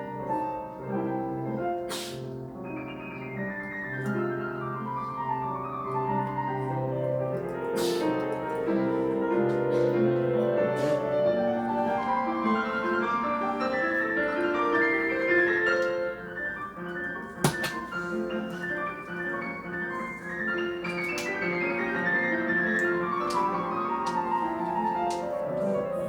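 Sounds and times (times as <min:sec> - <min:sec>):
classical piano music: 0:00.0 - 0:26.0.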